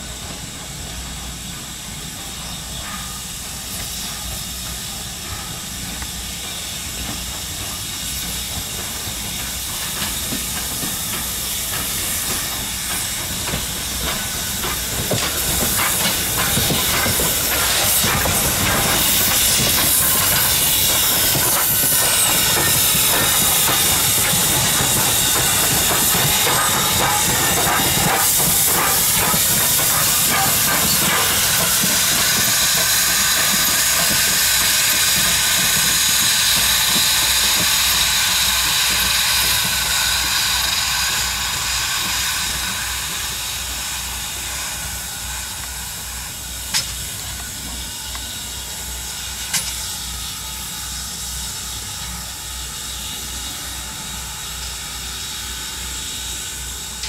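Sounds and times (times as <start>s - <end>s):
locomotive approaching slowly: 0.0s - 57.0s
steam locomotive hissing: 0.0s - 57.0s.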